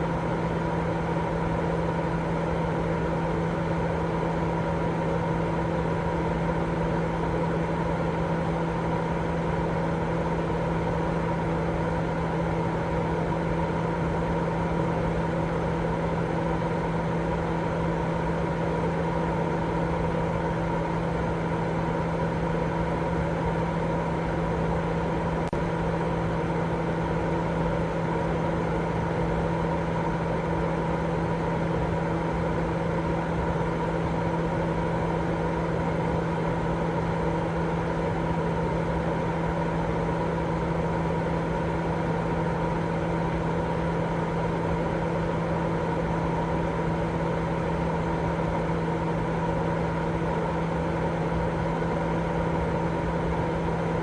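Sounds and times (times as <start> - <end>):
steady motor hum: 0.0 - 54.0.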